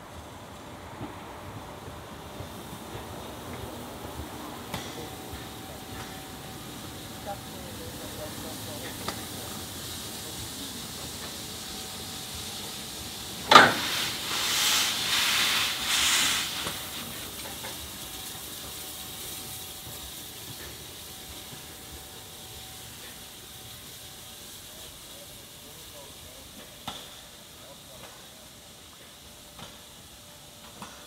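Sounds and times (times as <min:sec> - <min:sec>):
pulsing steam hiss: 0:00.0 - 0:31.0
steam locomotive blowing off steam: 0:01.0 - 0:31.0
loud blast of steam: 0:02.1 - 0:31.0.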